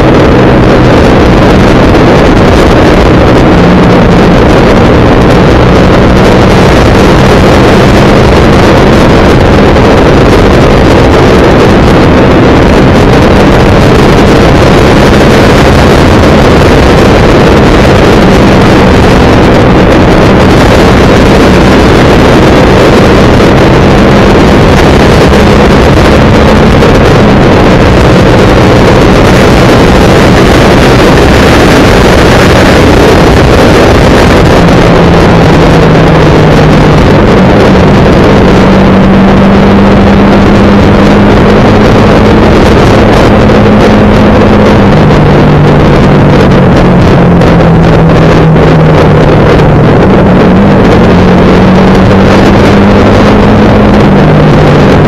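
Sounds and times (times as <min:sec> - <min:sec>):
motorcycle engine running: 0:00.0 - 0:55.0
wind rushing on microphone: 0:00.0 - 0:55.0.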